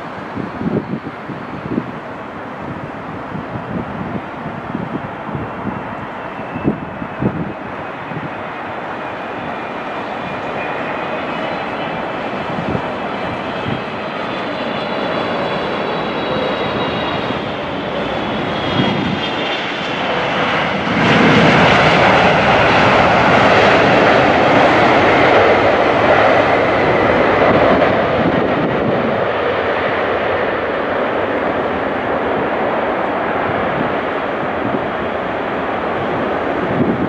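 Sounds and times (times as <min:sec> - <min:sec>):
jet engines whining: 0:00.0 - 0:37.0.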